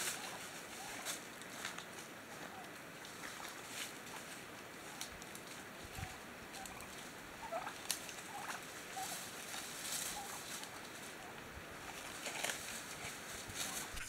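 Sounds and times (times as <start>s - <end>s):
wild turkeys calling: 0.0s - 1.2s, 2.3s - 13.0s.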